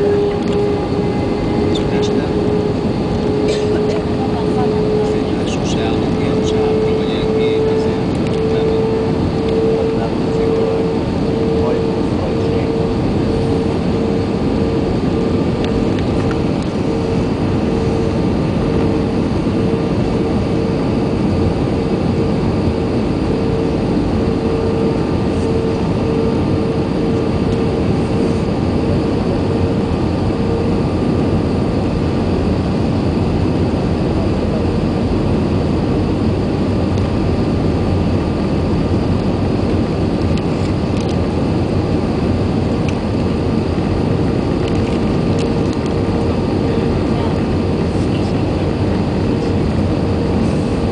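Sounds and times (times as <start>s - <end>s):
airflow over fuselage: 0.0s - 50.9s
jet engines roaring: 0.0s - 50.9s
mid-pitched hum: 0.0s - 50.9s.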